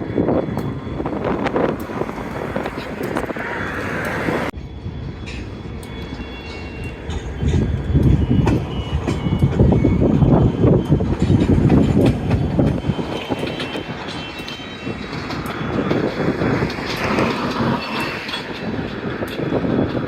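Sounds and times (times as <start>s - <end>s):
train wheels clattering: 0.0s - 20.0s.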